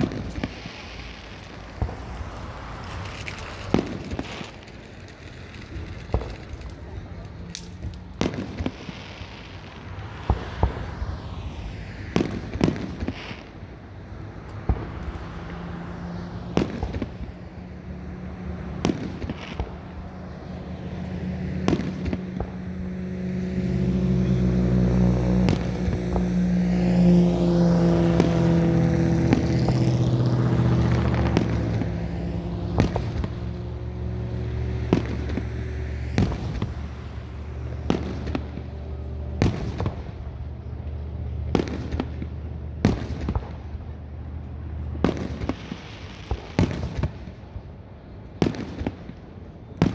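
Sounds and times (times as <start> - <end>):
fireworks bursting: 0.0 - 11.1, 12.1 - 22.7, 24.1 - 26.4, 27.4 - 49.9.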